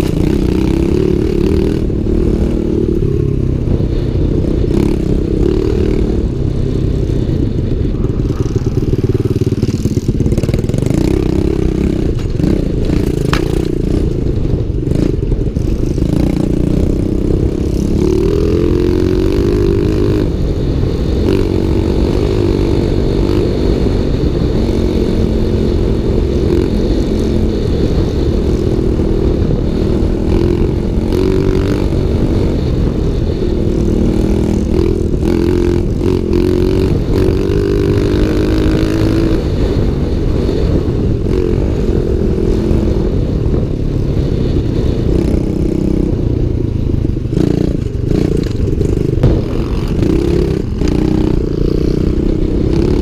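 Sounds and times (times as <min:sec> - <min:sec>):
small motorbike engine revving: 0:00.0 - 0:46.2, 0:46.9 - 0:53.0.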